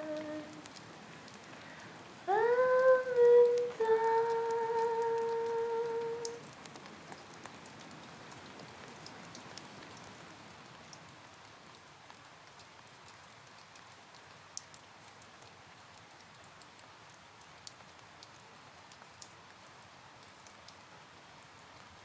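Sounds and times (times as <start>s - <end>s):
faint steady rain: 0.0s - 22.0s.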